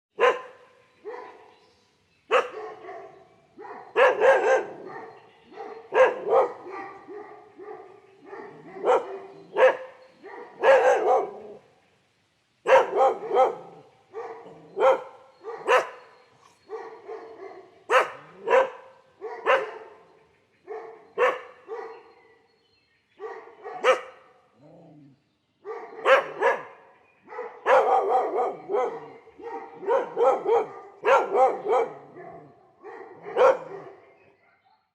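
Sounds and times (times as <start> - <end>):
dogs barking: 0.1 - 1.6, 2.3 - 11.7, 12.6 - 22.5, 23.1 - 34.9.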